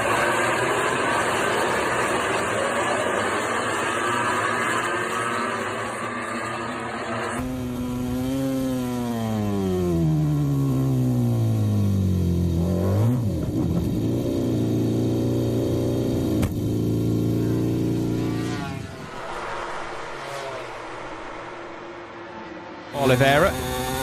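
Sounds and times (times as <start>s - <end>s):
racing motorcycle engine running hard: 0.0s - 19.3s, 23.0s - 24.0s.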